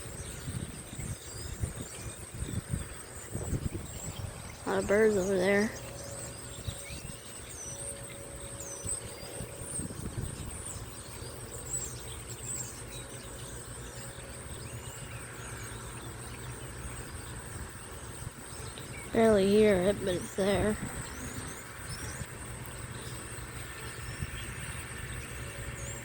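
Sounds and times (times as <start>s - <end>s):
birds chirping: 0.0s - 26.0s
low steady hum: 0.0s - 26.0s.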